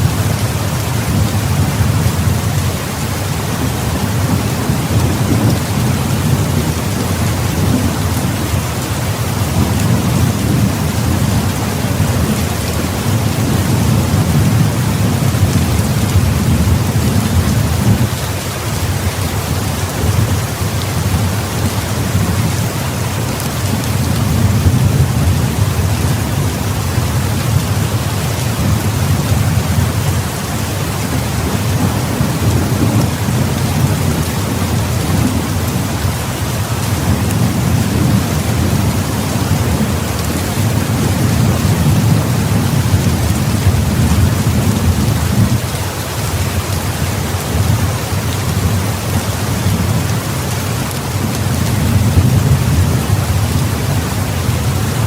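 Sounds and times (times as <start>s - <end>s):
heavy rain falling: 0.0s - 55.0s
low thunder rumbling: 0.0s - 55.0s.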